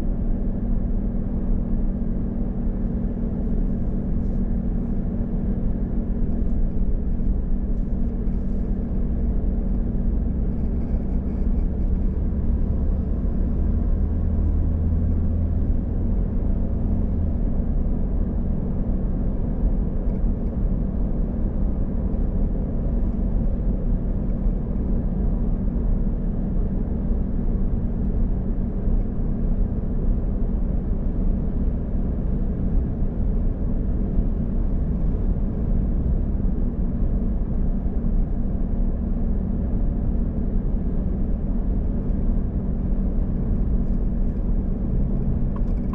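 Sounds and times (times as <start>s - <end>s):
car engine and tyre rumble: 0.0s - 45.9s.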